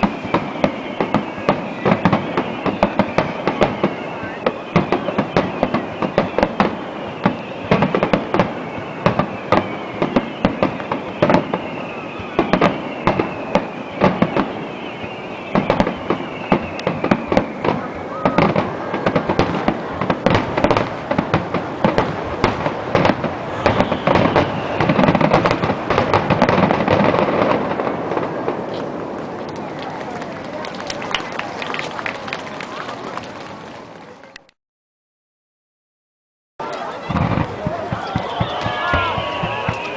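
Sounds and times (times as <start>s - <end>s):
fireworks whistles falling: 0.0s - 29.8s, 36.6s - 39.9s
fireworks bangs and crackles: 0.0s - 34.4s, 36.6s - 39.9s.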